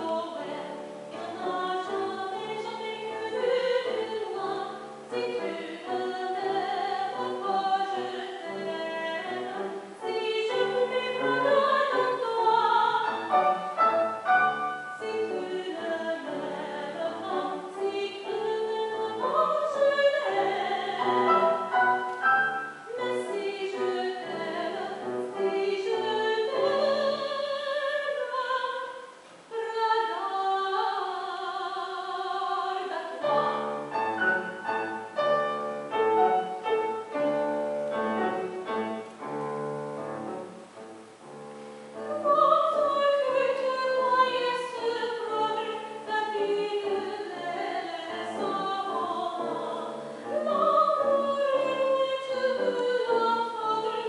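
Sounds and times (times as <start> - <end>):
woman singing operatically: 0.0 - 38.3, 42.0 - 54.0
grand piano: 0.0 - 54.0.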